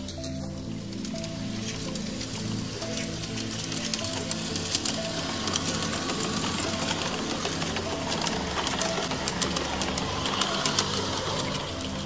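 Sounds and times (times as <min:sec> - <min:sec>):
background music: 0:00.0 - 0:12.0
model train motor whirring: 0:00.0 - 0:12.0
wheels clicking over rail joints: 0:00.0 - 0:12.0.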